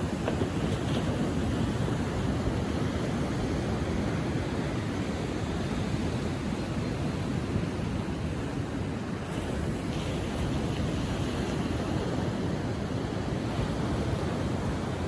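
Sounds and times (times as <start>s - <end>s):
ocean waves washing up beach: 0.0s - 15.0s.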